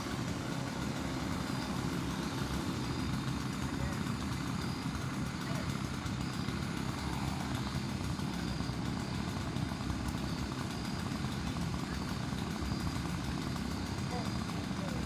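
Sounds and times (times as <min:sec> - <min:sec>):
heavy engine rumbling: 0:00.0 - 0:15.0.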